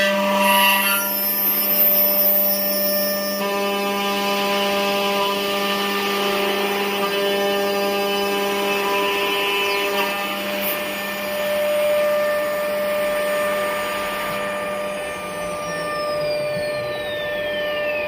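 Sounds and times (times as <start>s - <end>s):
machine spindle whining: 0.0s - 18.0s.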